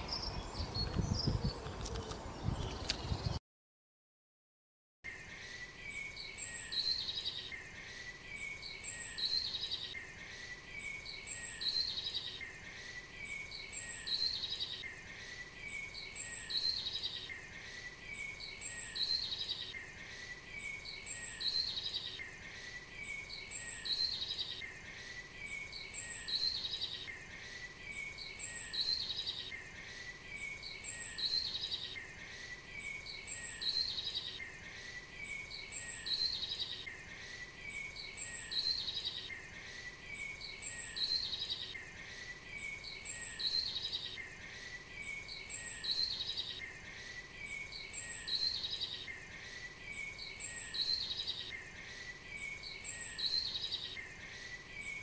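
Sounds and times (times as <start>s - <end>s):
bird chirping: 0.0s - 3.4s, 5.1s - 55.0s
faint background hiss: 5.1s - 55.0s.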